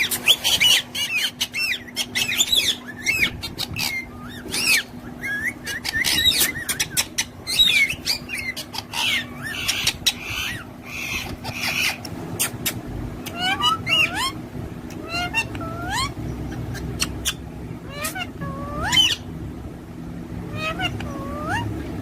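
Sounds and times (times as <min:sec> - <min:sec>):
parrots chirping and calling: 0:00.0 - 0:22.0
steady low hum: 0:00.0 - 0:22.0.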